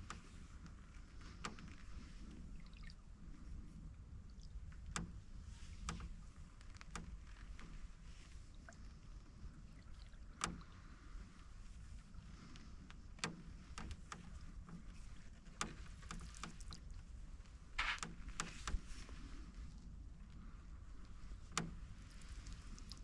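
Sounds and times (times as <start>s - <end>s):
paddle clicks and knocks: 0.0s - 2.9s, 4.6s - 20.4s, 21.0s - 23.0s
paddle dipping and dripping: 0.0s - 3.5s, 4.1s - 23.0s
canoe creaking: 0.0s - 3.6s, 4.6s - 23.0s.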